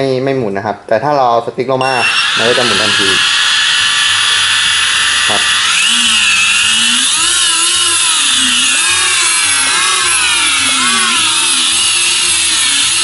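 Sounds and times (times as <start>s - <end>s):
drone motors whining: 1.8s - 13.0s.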